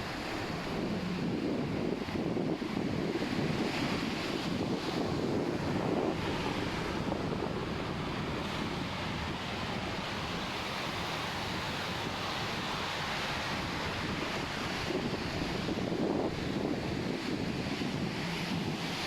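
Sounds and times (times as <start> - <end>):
ocean surf washing ashore: 0.0 - 19.0
wind on microphone: 0.0 - 19.0.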